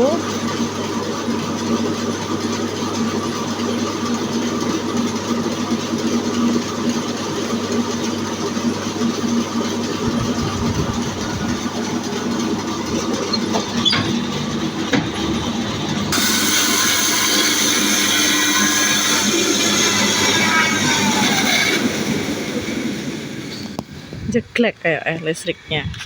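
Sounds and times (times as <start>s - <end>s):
band sawmill running: 0.0s - 25.5s.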